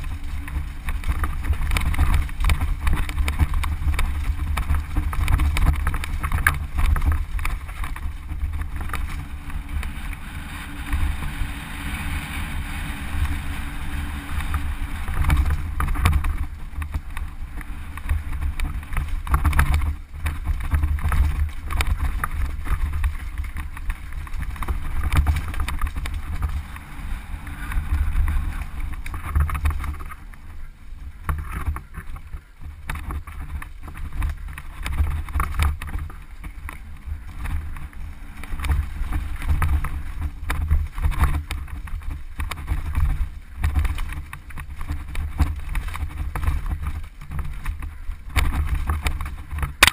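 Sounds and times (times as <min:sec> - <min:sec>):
bike knocking and rattling: 0:00.0 - 0:49.9
wind rumble on microphone: 0:00.0 - 0:49.9.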